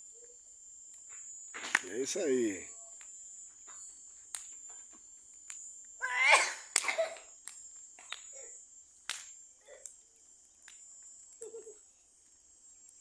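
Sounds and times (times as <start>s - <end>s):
crickets chirring: 0.0s - 13.0s
bonfire popping and crackling: 0.8s - 13.0s.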